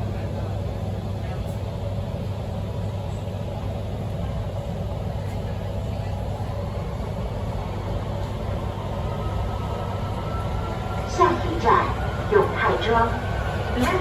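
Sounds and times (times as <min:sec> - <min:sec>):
subway train running: 0:00.0 - 0:14.0.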